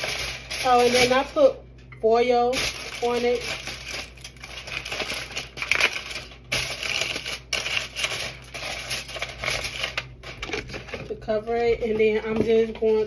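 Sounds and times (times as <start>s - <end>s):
aluminium foil crinkling: 0.0s - 1.5s, 2.5s - 13.0s.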